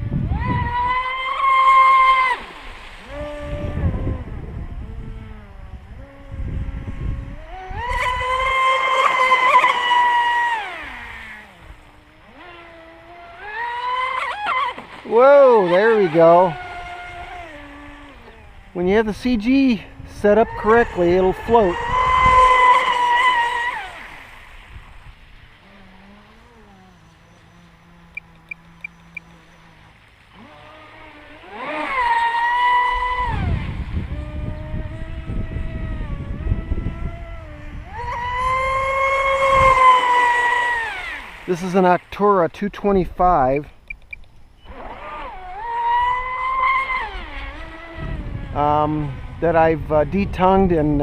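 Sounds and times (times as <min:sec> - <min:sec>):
electric boat motor whining: 0:00.0 - 0:42.2, 0:43.8 - 0:51.0.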